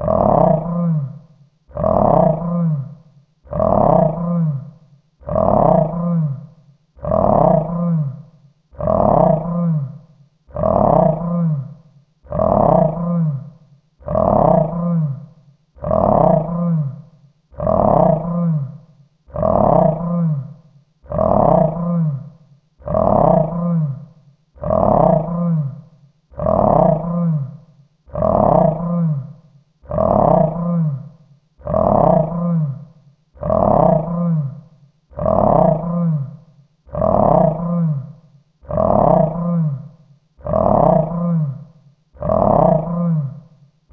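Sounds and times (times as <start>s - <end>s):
monster growl: 0.0s - 43.5s.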